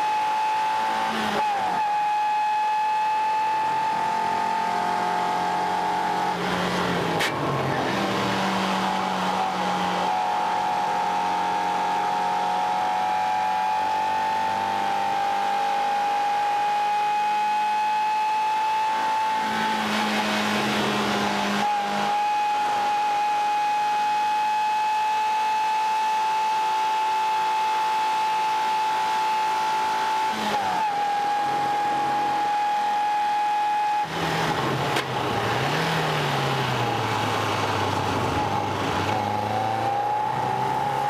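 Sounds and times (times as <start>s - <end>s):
car engine running hard: 0.0s - 41.0s.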